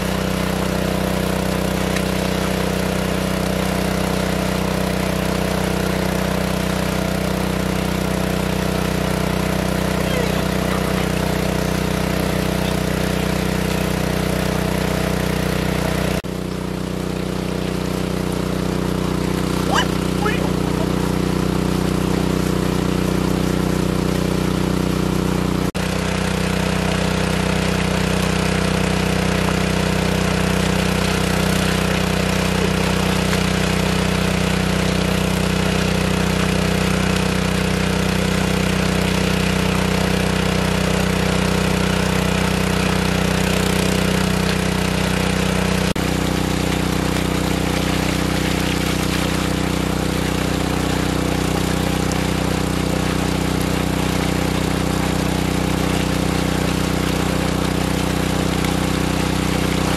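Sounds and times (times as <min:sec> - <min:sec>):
water gushing and splashing: 0:00.0 - 0:59.9
water pump engine running: 0:00.0 - 0:59.9.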